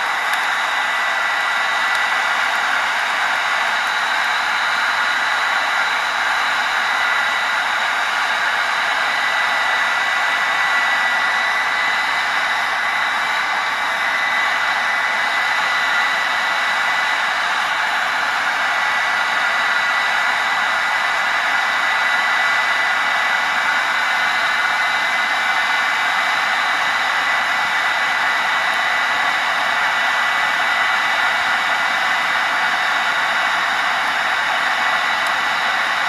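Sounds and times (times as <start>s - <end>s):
hair dryer blowing air: 0.0s - 36.0s.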